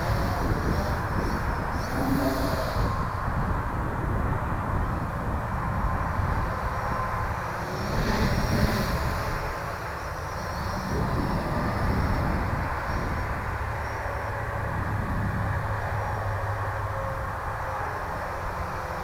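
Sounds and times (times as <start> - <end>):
quadcopter propeller whine: 0.0 - 19.0.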